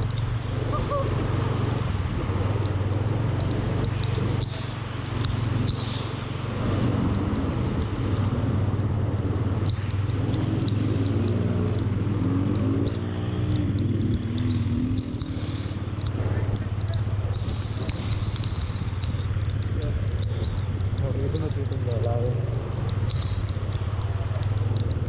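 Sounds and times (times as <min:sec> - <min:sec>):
rain and water hiss: 0:00.0 - 0:25.0
vehicle engine humming: 0:00.0 - 0:25.0.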